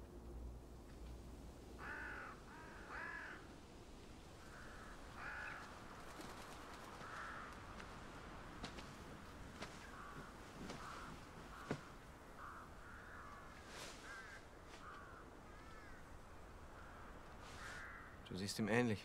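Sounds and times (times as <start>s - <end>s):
crows cawing: 1.8s - 3.6s, 4.4s - 18.2s.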